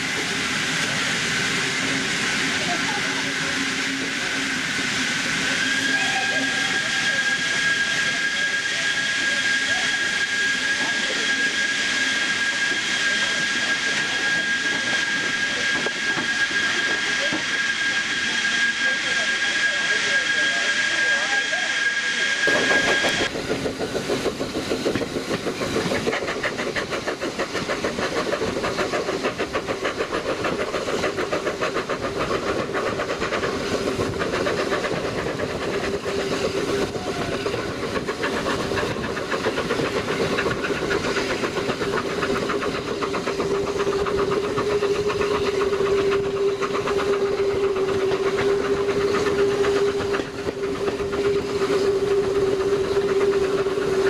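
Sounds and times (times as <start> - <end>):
steam train hissing: 0.0 - 54.0.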